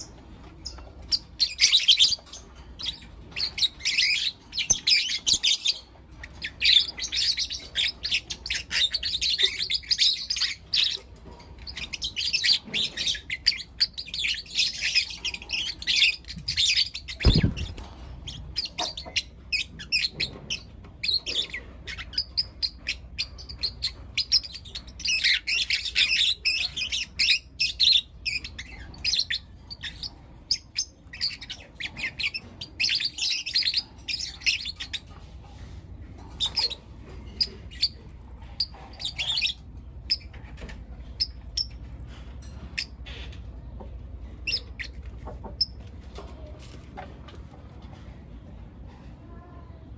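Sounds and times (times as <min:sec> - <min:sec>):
lovebirds chirping: 0:00.0 - 0:41.9.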